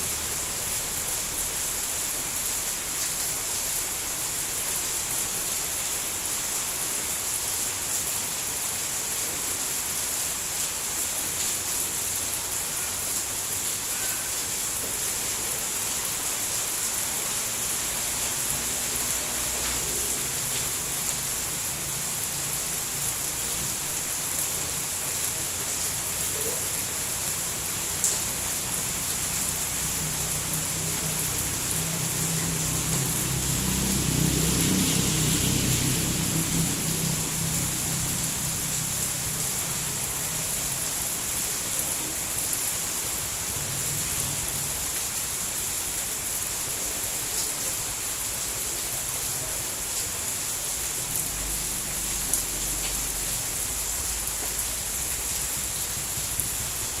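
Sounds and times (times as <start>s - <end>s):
rain hissing: 0.0s - 57.0s.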